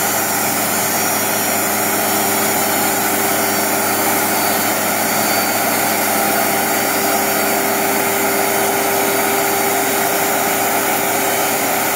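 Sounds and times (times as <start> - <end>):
band sawmill running: 0.0 - 11.9.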